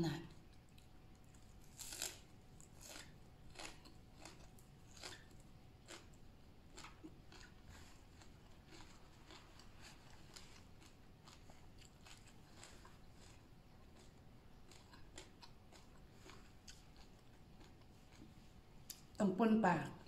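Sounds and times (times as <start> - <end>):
person chewing with faint crunches: 0.2 - 19.2.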